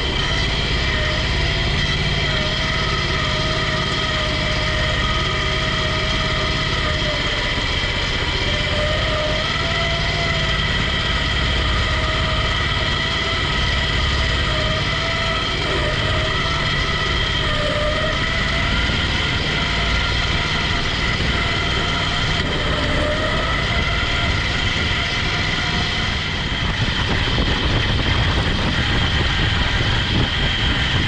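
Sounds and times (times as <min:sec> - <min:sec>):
lawn tractor engine running: 0:00.0 - 0:31.0.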